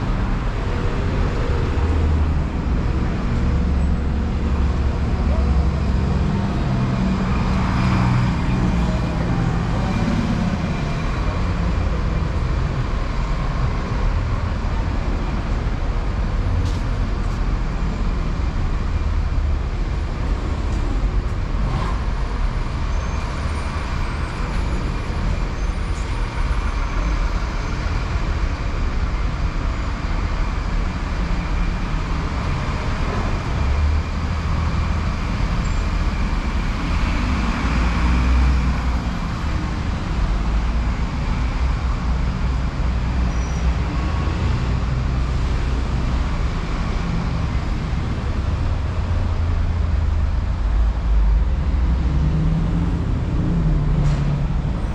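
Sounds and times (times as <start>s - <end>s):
city street traffic: 0.0s - 54.9s.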